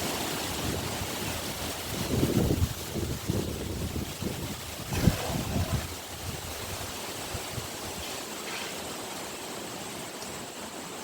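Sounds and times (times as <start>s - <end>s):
wind noise on microphone: 0.0s - 9.0s.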